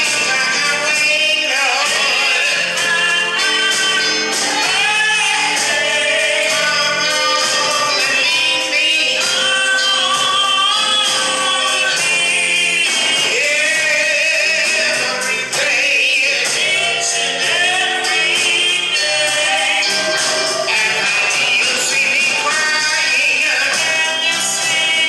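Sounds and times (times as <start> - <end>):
instrumental backing with beat: 0.0 - 25.0
voices singing in harmony: 0.0 - 25.0.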